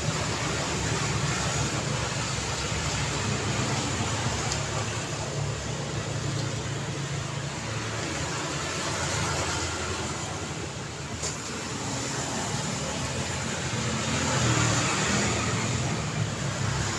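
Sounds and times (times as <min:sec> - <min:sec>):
road traffic passing: 0:00.0 - 0:16.9.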